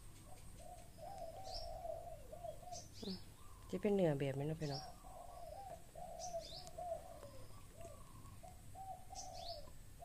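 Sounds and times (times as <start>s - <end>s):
birds cooing: 0.0s - 10.0s.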